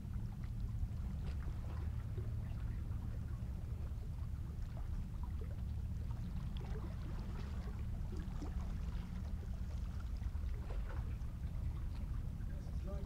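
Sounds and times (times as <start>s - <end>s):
small water splashes: 0.0s - 12.4s
wind: 0.0s - 13.0s.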